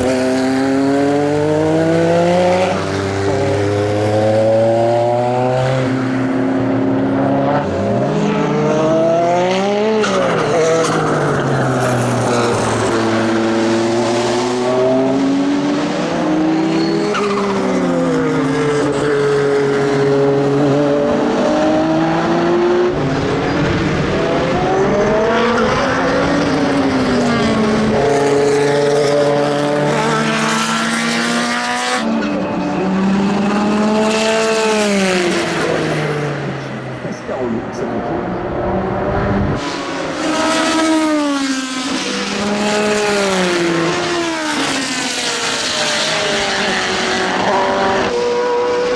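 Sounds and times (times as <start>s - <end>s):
racing engine accelerating: 0.0s - 48.9s.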